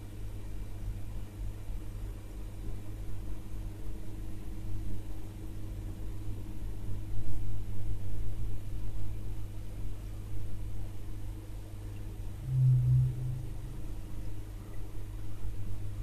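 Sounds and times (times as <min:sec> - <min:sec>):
low rumble with steady hum: 0:00.0 - 0:16.0.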